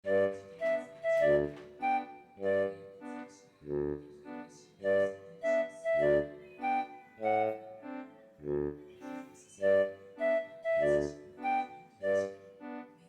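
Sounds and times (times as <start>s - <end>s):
bouncy keyboard chords: 0.0s - 13.0s.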